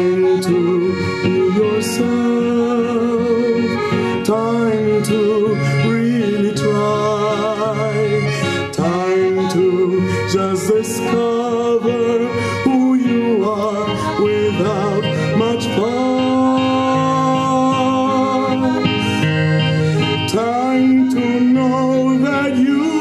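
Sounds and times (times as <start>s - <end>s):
accordion melody: 0.0s - 23.0s
acoustic guitar accompaniment: 0.0s - 23.0s.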